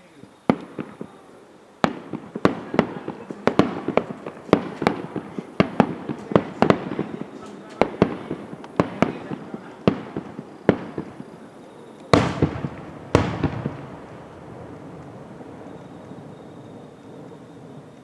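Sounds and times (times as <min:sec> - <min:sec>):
fireworks bangs: 0:00.4 - 0:18.0
fireworks booms with echoing rumble: 0:00.5 - 0:18.0.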